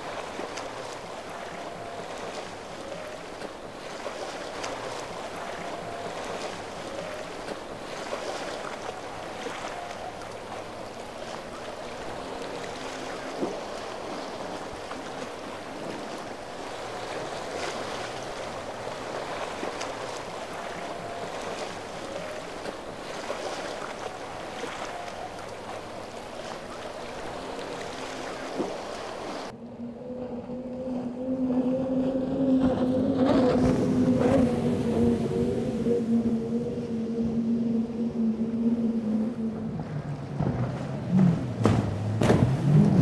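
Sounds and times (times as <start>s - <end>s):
distant boat engines droning: 0.0s - 43.0s
waves: 0.0s - 43.0s
wind: 0.0s - 43.0s.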